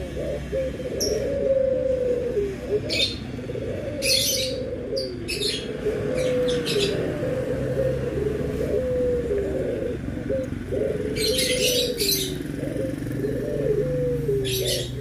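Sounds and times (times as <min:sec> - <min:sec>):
small birds chirping: 0:00.0 - 0:01.5, 0:02.4 - 0:15.0
dove cooing: 0:00.0 - 0:15.0.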